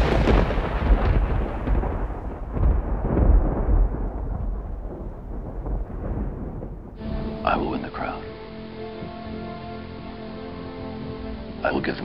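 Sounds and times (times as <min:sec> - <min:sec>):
deep rolling rumble: 0:00.0 - 0:11.7.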